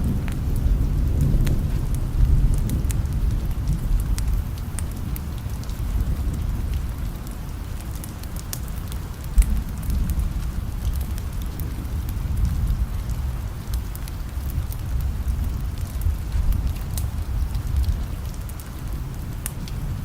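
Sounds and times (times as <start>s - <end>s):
fireplace fire crackling: 0.0s - 20.0s
low rumble of thunder: 0.0s - 20.0s
steady rain: 0.0s - 20.0s.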